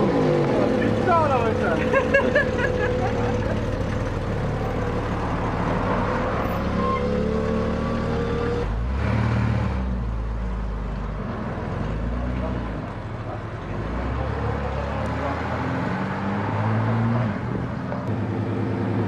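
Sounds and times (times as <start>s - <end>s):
car engines driving past: 0.0s - 19.0s.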